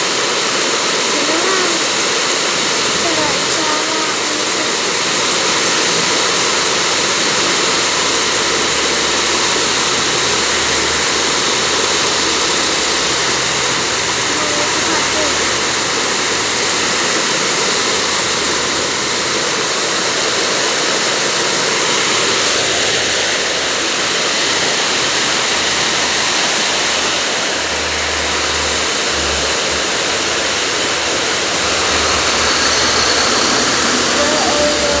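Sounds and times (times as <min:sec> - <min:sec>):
floodwater rushing: 0:00.0 - 0:35.0
heavy rain: 0:00.0 - 0:35.0.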